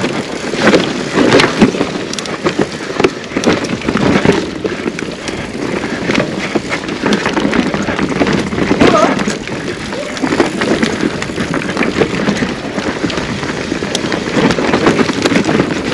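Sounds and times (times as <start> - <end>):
bike knocking and rattling: 0.0 - 15.9
bike tyres on dirt: 0.0 - 15.9.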